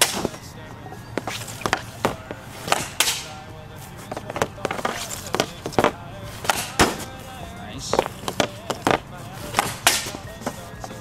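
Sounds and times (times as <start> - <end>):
hockey stick and puck clacks: 0.0 - 0.6, 1.2 - 11.0
background music: 0.0 - 11.0.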